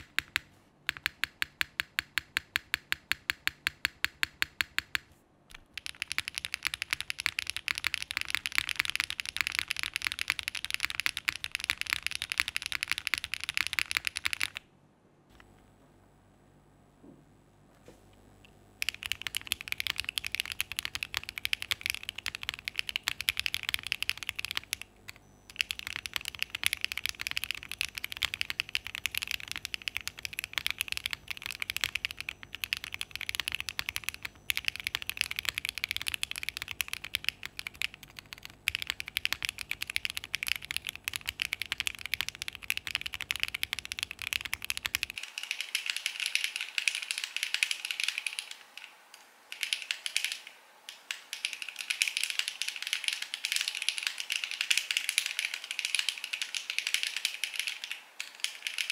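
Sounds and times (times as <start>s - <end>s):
mechanical keyboard typing: 0.0s - 14.6s, 18.8s - 58.9s.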